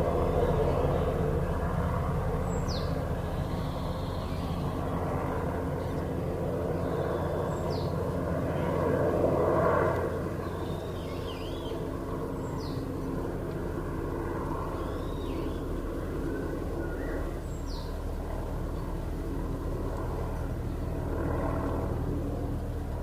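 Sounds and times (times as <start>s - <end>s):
helicopter running: 0.0s - 23.0s.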